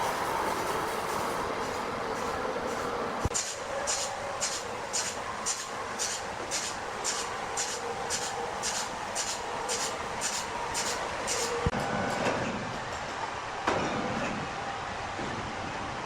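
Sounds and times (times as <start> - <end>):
machinery humming: 0.0 - 15.3.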